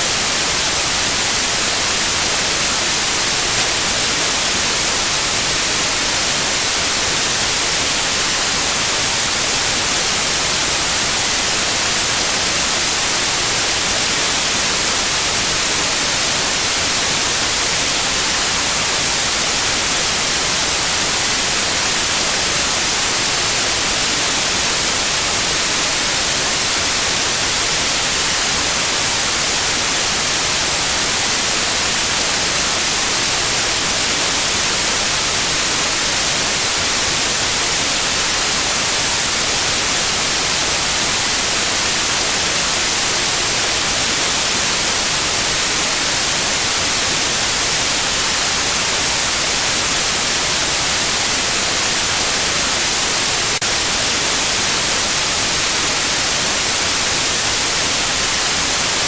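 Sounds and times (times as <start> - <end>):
high-pitched steady tone: 0.0 - 59.0
white noise hiss: 0.0 - 59.0.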